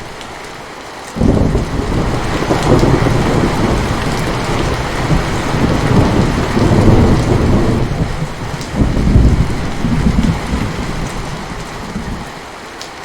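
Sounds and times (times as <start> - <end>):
steady rain: 0.0 - 13.0
thunder rumbling: 1.2 - 12.4.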